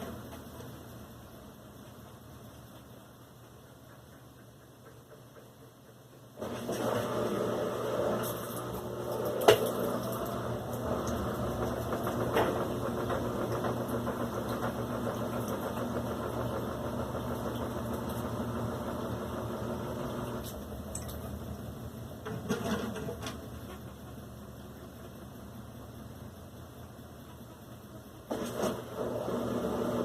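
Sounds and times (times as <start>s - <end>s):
washing machine humming: 0.0s - 30.0s.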